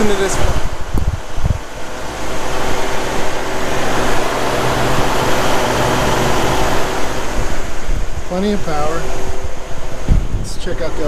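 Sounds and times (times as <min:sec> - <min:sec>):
car engine running: 0:00.0 - 0:11.0
low thumps: 0:00.4 - 0:11.0.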